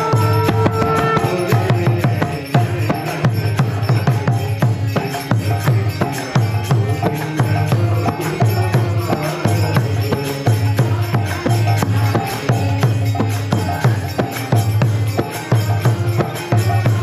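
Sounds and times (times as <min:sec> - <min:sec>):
hand drum beat: 0:00.0 - 0:17.0
harmonium chords: 0:00.0 - 0:17.0
jingling hand cymbals: 0:00.0 - 0:17.0.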